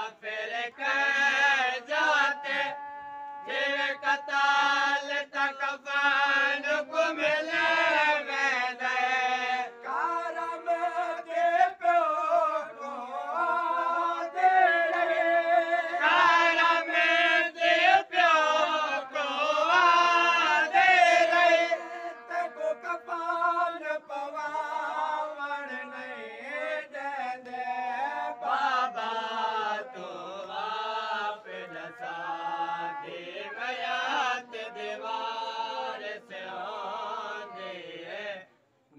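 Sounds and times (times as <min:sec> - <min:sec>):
men chanting a lament: 0:00.0 - 0:38.5.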